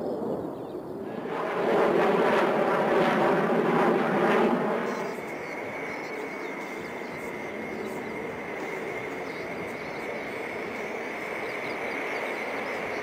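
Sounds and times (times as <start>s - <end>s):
jet airliner flying past: 0.0s - 13.0s
steady high whine: 0.9s - 13.0s.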